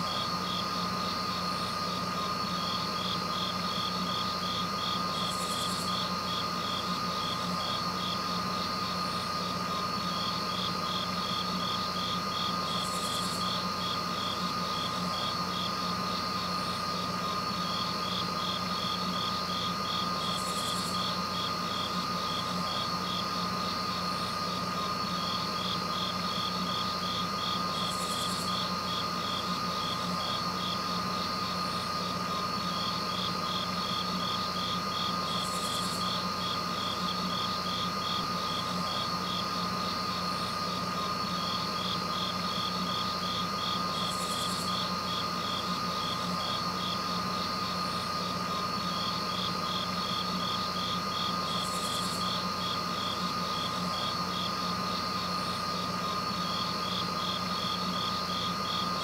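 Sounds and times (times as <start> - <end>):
insects chirping: 0.0 - 59.0
steady low hum: 0.0 - 59.0.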